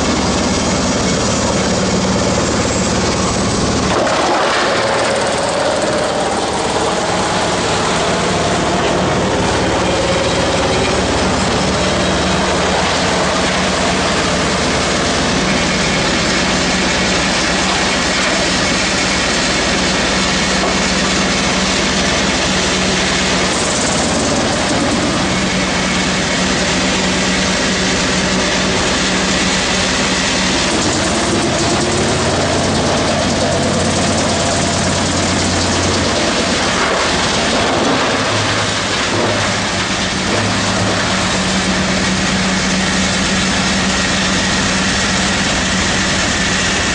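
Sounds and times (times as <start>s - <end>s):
low motor hum: 0.0s - 46.9s
wood chipper chipping logs: 0.0s - 46.9s.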